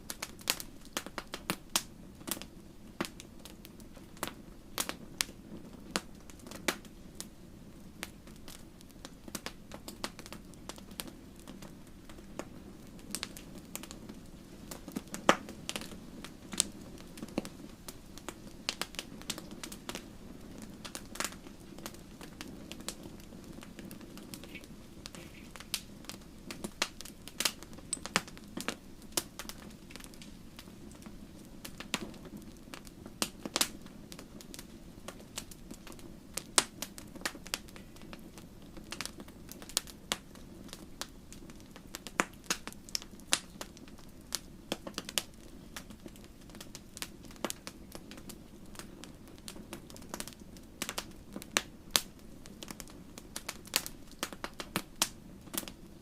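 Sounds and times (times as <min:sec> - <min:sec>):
low rumble of burning: 0:00.0 - 0:56.0
wood fire crackling: 0:00.0 - 0:56.0.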